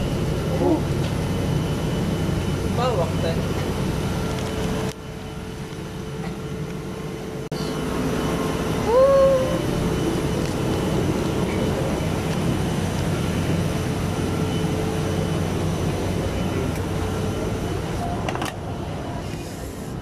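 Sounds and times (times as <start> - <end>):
airliner cabin rush and hum: 0.0 - 20.0.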